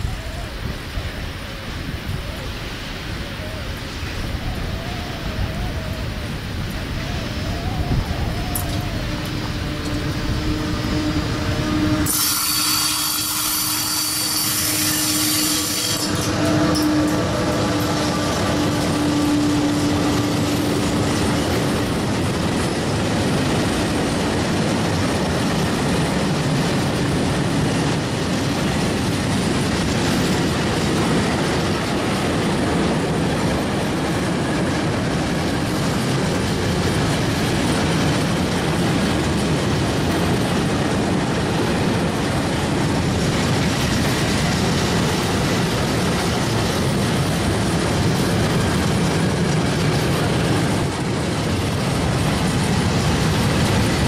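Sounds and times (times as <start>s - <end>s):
electric locomotive humming: 0.0s - 54.0s
steel wheels rumbling on rail: 0.0s - 54.0s.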